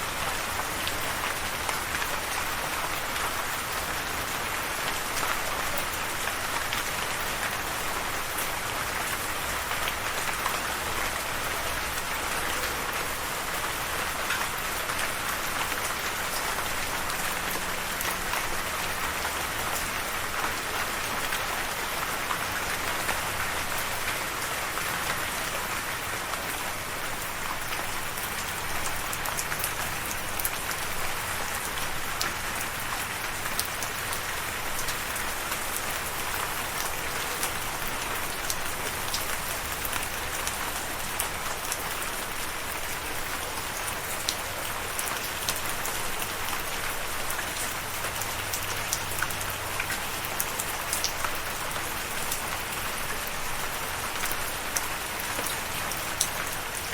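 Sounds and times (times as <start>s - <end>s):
rain falling on a surface: 0.0s - 56.9s.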